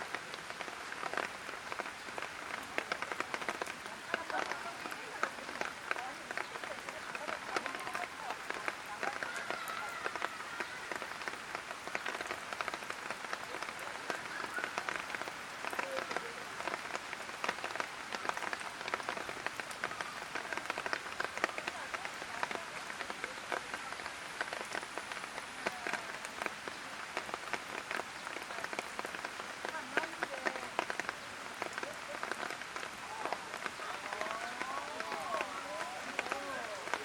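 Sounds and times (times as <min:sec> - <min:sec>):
light rain on hard surfaces: 0:00.0 - 0:37.0.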